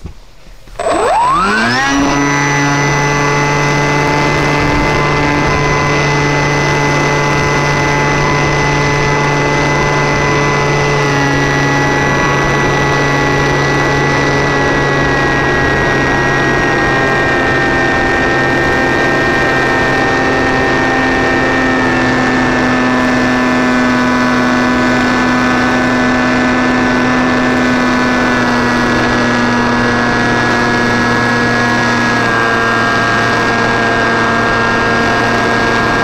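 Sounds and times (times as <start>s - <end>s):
model plane motors droning: 0.6s - 36.0s.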